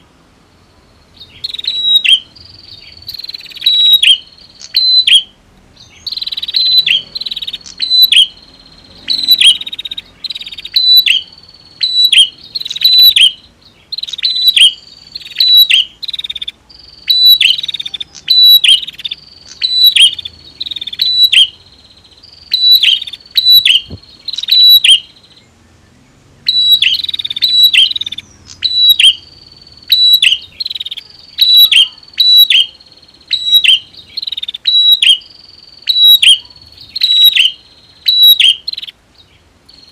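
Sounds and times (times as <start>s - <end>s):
birds calling buzzy notes and chips: 0.0s - 39.9s.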